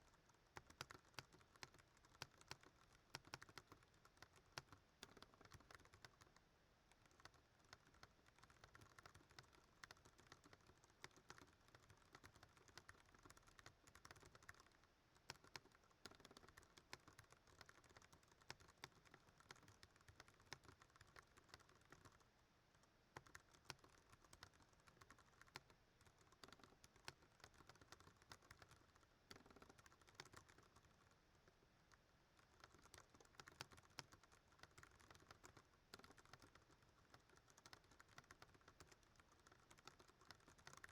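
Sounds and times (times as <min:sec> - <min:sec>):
mechanical keyboard typing: 0:00.6 - 0:06.3, 0:07.0 - 0:22.2, 0:23.1 - 0:31.1, 0:32.4 - 0:40.9.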